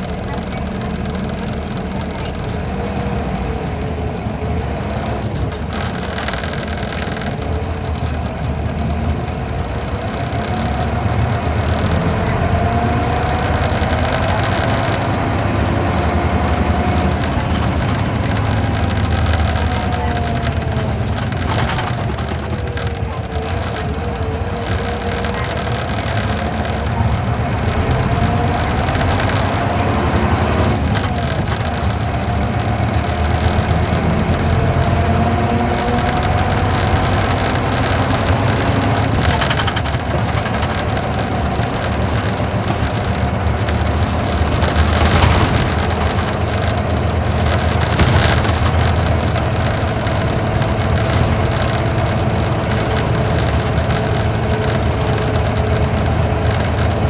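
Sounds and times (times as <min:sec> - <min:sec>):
bus diesel engine: 0:00.0 - 0:57.0
rising engine whine: 0:00.0 - 0:57.0
road bumps: 0:00.0 - 0:57.0
road noise: 0:00.0 - 0:57.0.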